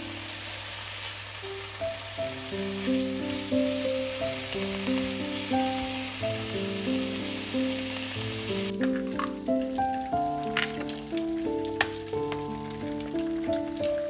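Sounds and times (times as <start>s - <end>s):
bacon sizzling in frying pan: 0.0s - 14.0s
gentle melody: 0.0s - 14.0s
sharp frying pops: 0.0s - 14.0s.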